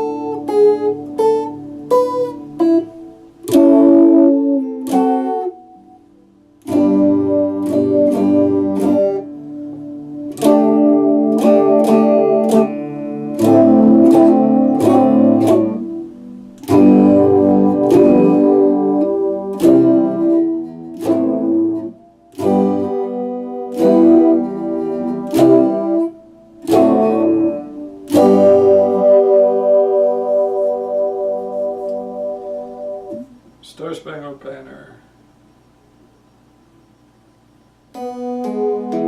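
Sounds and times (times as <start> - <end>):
electric guitar strummed chords: 0.0 - 33.6, 37.9 - 39.0.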